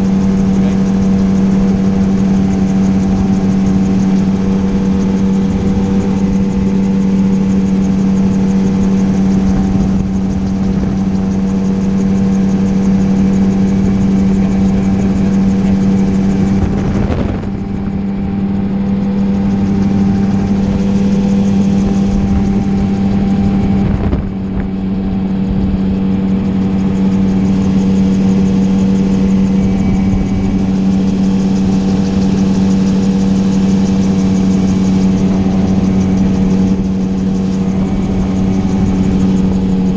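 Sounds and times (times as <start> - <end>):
propeller engine drone: 0.0 - 39.9
rushing wind: 0.0 - 39.9.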